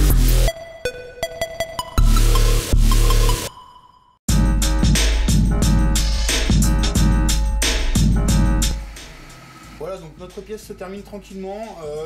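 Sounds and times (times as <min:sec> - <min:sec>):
music with beat and deep bass: 0:00.0 - 0:03.5, 0:04.3 - 0:12.0.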